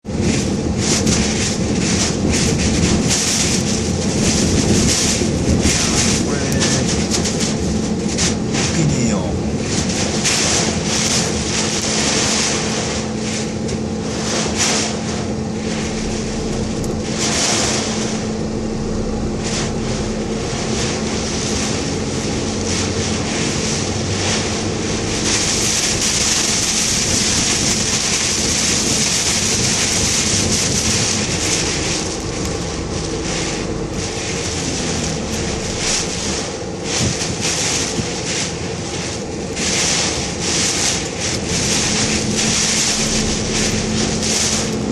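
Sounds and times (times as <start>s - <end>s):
car engine and road noise: 0.0s - 44.9s
wind and rain hissing on car: 0.0s - 44.9s.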